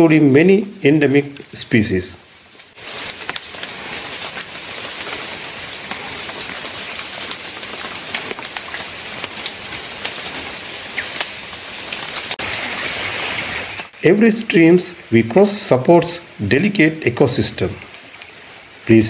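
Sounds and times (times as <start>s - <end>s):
water rushing with drips: 2.3s - 14.0s, 14.6s - 18.9s.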